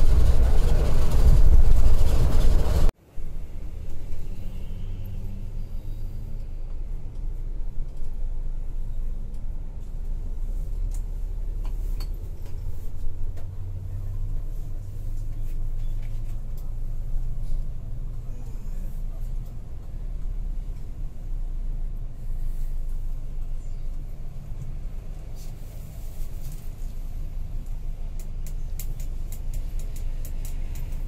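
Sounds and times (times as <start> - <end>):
coach engine and road rumble: 0.0 - 31.0.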